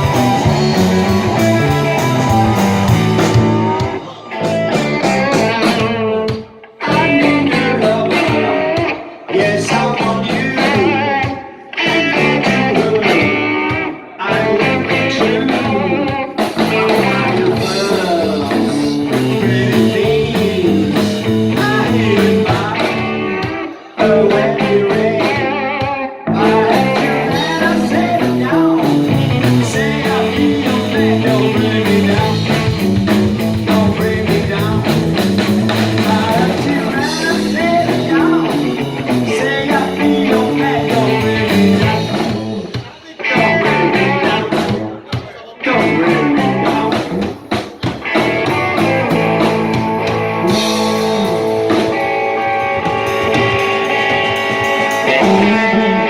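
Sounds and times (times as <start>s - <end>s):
rock band playing blues-rock: 0.0s - 56.0s.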